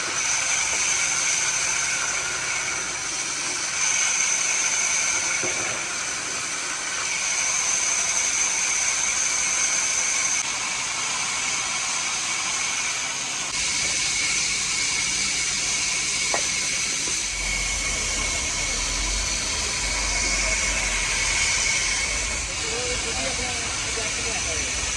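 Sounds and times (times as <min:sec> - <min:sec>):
woodworking machine hiss and whine: 0:00.0 - 0:24.9.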